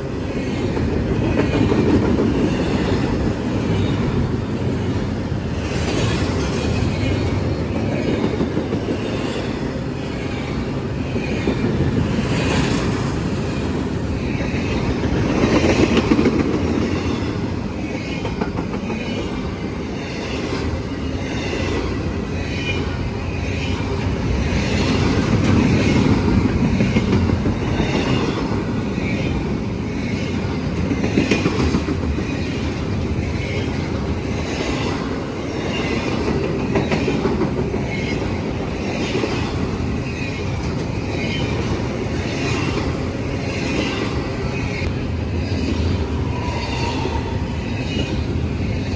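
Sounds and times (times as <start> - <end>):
freight train rumbling: 0.0 - 48.9.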